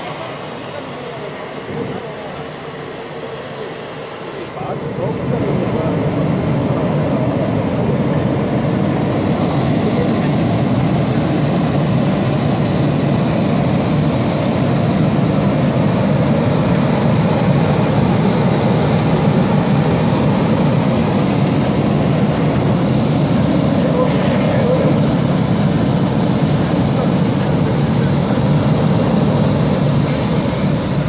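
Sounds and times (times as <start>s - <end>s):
blower rushing air: 0.0s - 31.0s
faint high whine: 0.0s - 31.0s.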